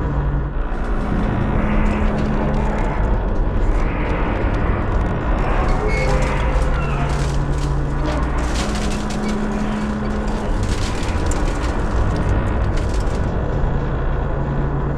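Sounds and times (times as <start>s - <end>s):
steel structure creaking and grinding: 0.0s - 14.9s.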